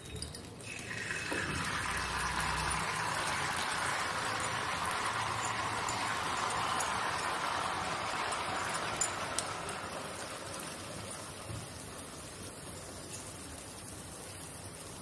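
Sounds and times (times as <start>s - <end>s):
batter sizzling in hot fat: 0.6s - 15.0s.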